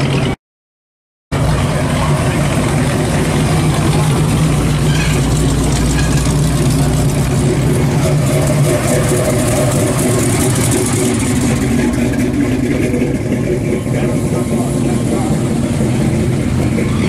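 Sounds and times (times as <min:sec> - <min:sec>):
car engine exhaust rumble: 0:01.3 - 0:17.0.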